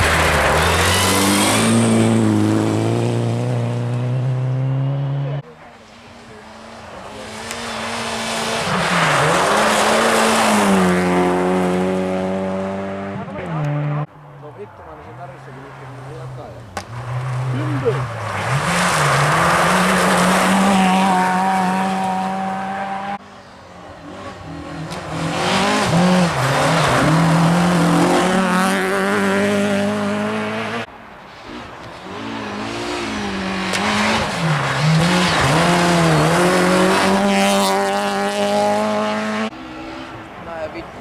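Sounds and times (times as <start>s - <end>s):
rally cars driving past at high revs: 0.0s - 14.1s, 15.1s - 40.4s.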